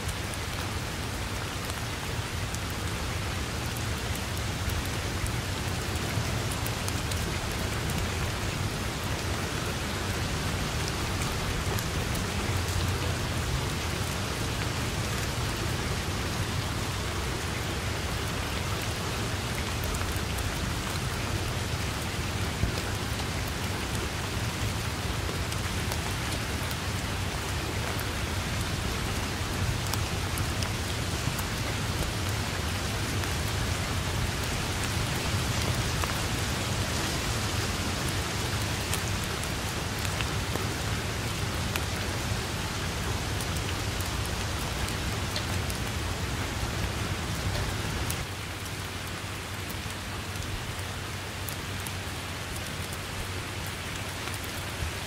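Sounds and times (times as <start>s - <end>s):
rain drops ticking: 0.0s - 55.0s.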